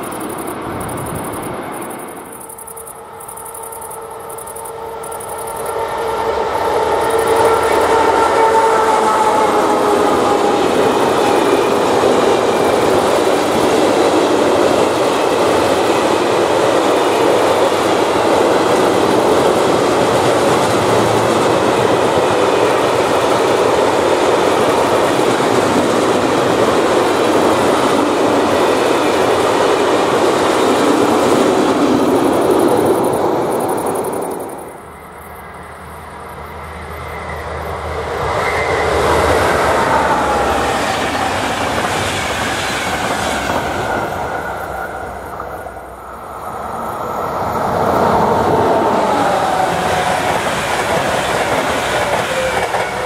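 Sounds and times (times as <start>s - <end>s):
electric locomotive whine: 0.0s - 53.0s
freight wagons rumbling on rails: 0.0s - 53.0s.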